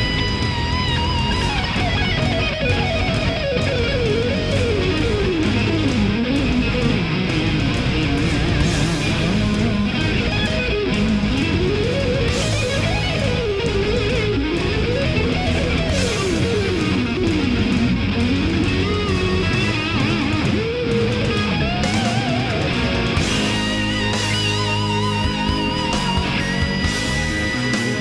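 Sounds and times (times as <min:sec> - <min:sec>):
guitar melody: 0:00.0 - 0:28.0
instrumental rock music: 0:00.0 - 0:28.0.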